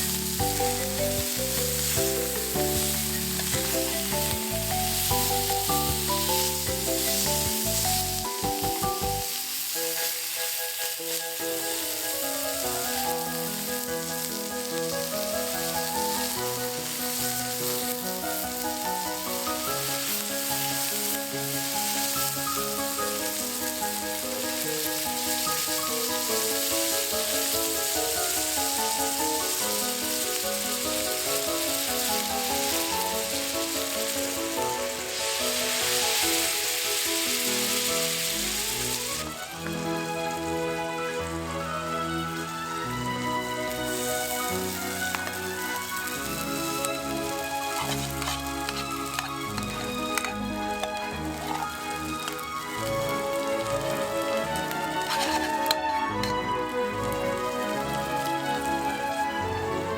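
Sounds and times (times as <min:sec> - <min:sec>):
background music: 0:00.0 - 0:59.9
steak sizzling in a frying pan: 0:00.0 - 0:59.9.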